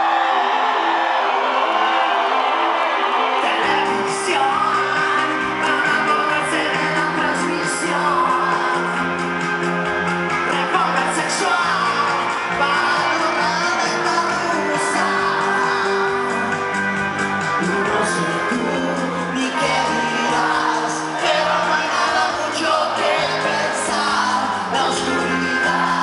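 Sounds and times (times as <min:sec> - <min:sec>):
crowd shouting: 0:00.0 - 0:09.0, 0:10.5 - 0:26.0
crowd cheering: 0:00.0 - 0:26.0
live rock band playing: 0:03.6 - 0:26.0.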